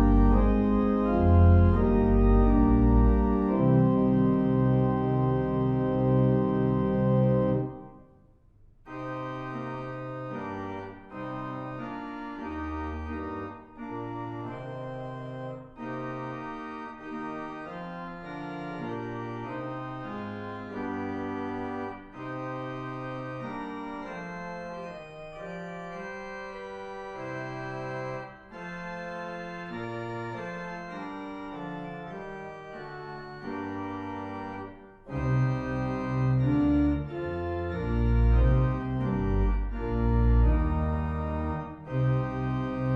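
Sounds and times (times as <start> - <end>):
organ playing hymn-like chords: 0.0 - 8.2, 8.8 - 42.9.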